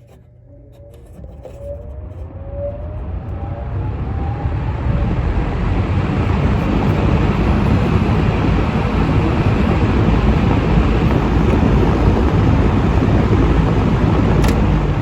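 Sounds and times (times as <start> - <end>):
fan air rushing: 0.0 - 15.0
fan motor whine: 0.0 - 15.0.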